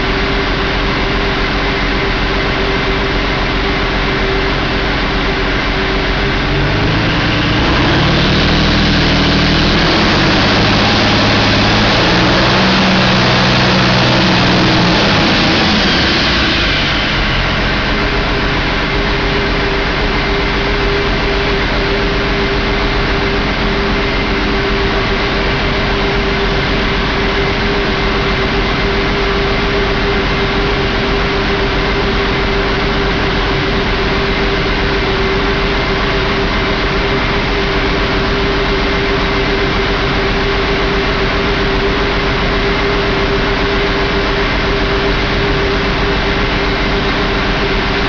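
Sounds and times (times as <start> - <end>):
diesel engine running: 0.0 - 48.0
steady tone: 0.0 - 48.0.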